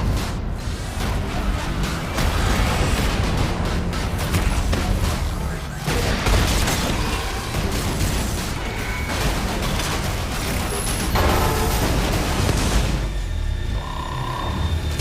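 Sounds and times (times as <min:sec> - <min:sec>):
dramatic orchestral score: 0:00.0 - 0:15.0.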